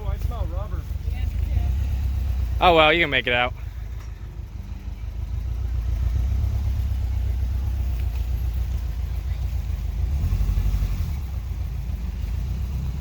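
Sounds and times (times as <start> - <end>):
car engine pulling under load: 0.0 - 13.0.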